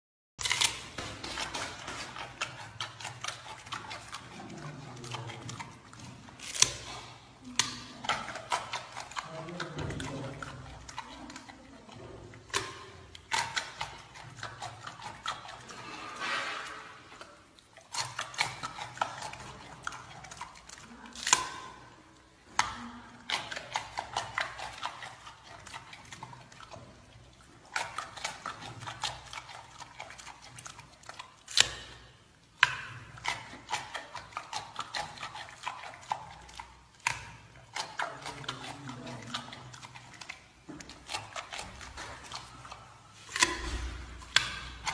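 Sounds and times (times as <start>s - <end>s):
panda chewing wet smacks: 0.4s - 44.9s.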